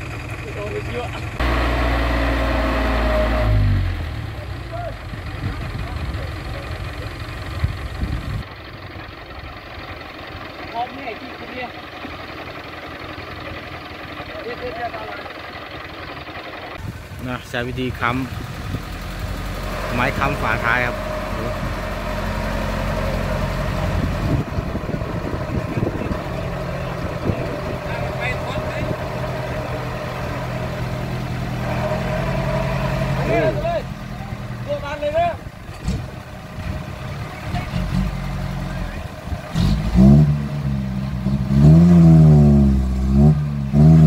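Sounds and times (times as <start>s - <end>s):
truck engine running: 0.0s - 44.0s.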